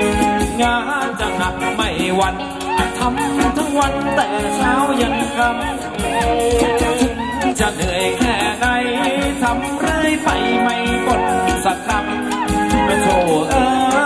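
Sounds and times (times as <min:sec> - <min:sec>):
drum kit dance beat: 0:00.0 - 0:14.0
electric guitar: 0:00.0 - 0:14.0
person singing: 0:00.0 - 0:14.0.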